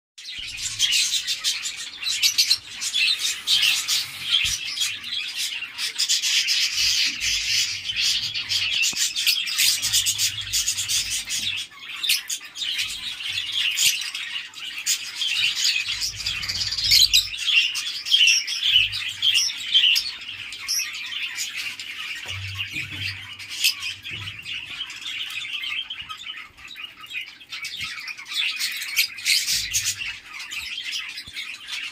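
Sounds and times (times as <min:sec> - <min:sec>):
cockatiels chirping: 0:00.4 - 0:31.9.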